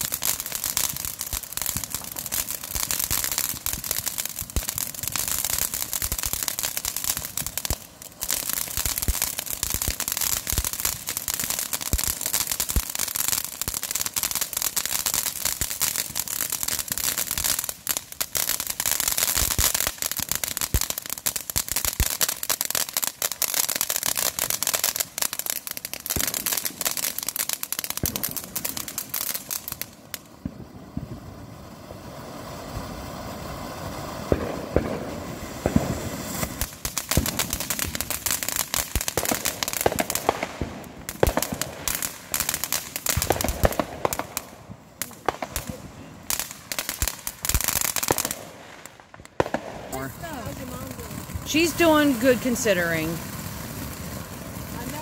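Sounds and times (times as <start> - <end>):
firework fountains crackling: 0.0 - 55.0.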